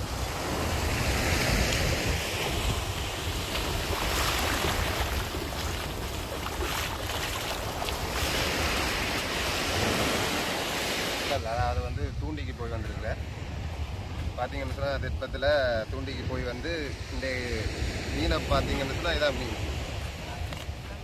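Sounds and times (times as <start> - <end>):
surf breaking on beach: 0.0 - 13.3, 14.4 - 21.0
wind buffeting microphone: 0.0 - 21.0.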